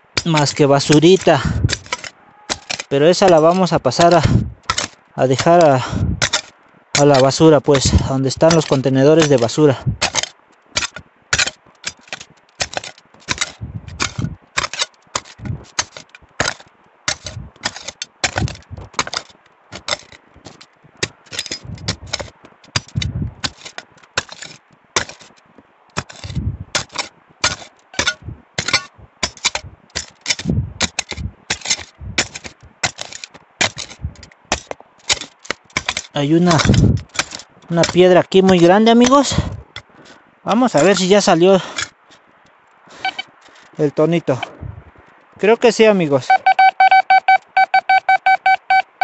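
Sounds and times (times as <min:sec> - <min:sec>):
digging tool striking stony soil: 0:00.1 - 0:43.7.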